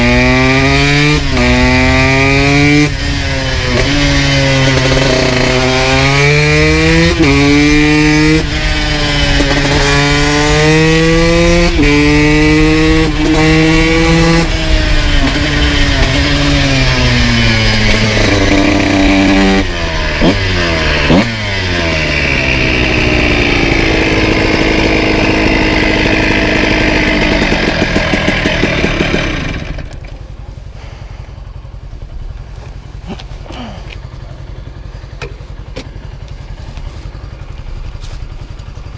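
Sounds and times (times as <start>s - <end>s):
two-stroke motorcycle revving: 0.0s - 38.9s.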